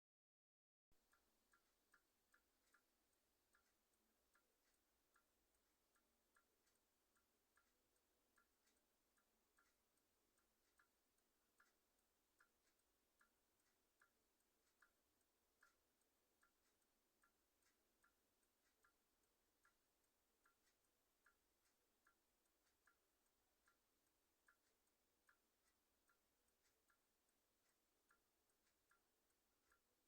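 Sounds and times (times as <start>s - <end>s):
clock ticking: 1.0s - 30.0s.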